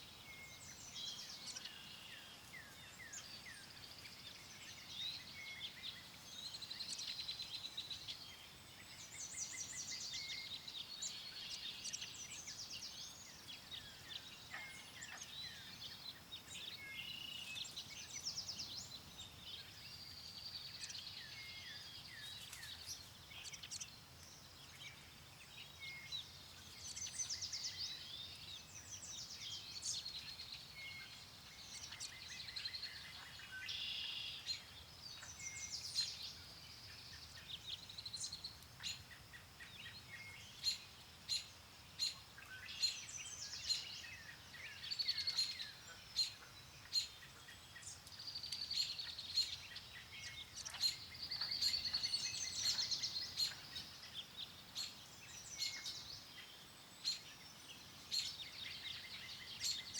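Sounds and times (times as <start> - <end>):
faint low wind: 0.0 - 59.9
songbirds singing and chirping: 0.0 - 59.9.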